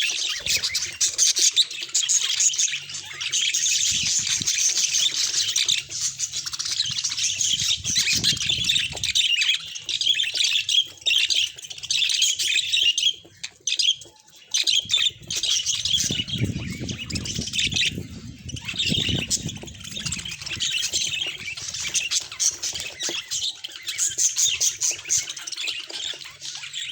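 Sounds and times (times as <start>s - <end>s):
budgies chattering and warbling: 0.0s - 26.9s.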